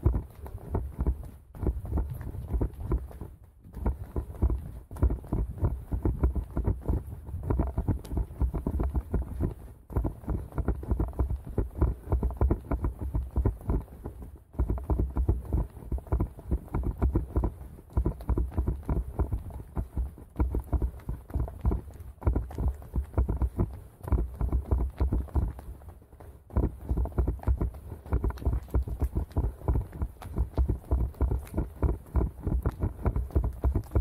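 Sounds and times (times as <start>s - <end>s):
running footsteps thudding: 0.0s - 34.0s.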